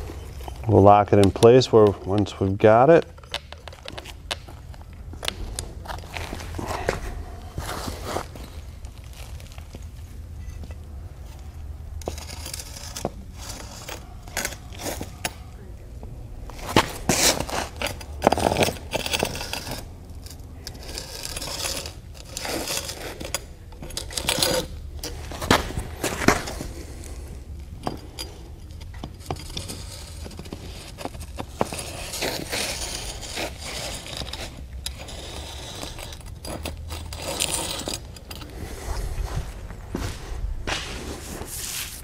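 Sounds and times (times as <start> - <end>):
metal point scraping pavers: 0.0 - 15.6, 16.5 - 42.0.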